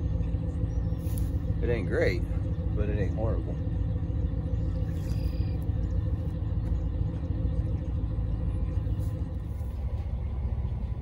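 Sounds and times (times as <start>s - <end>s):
truck engines idling: 0.0s - 11.0s.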